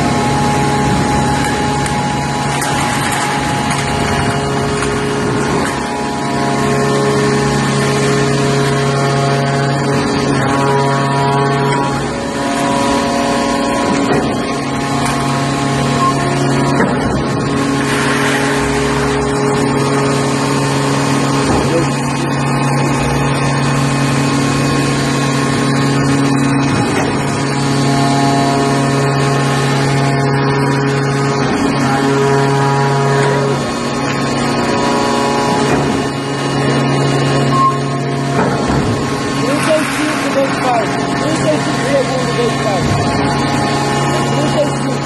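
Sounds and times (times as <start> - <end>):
baler machine humming: 0.0 - 45.0.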